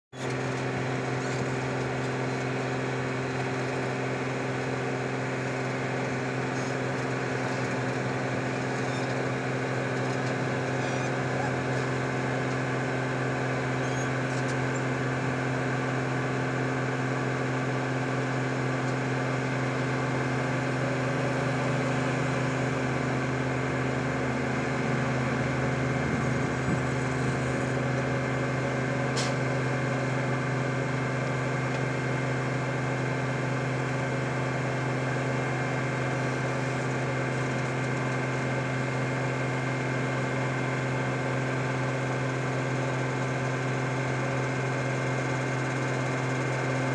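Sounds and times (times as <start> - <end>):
paver diesel engine running: 0.1 - 46.9.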